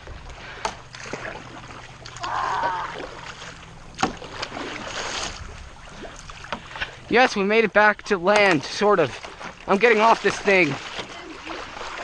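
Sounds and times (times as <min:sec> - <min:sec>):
paddle splashing in water: 0:00.0 - 0:07.3, 0:07.9 - 0:12.0.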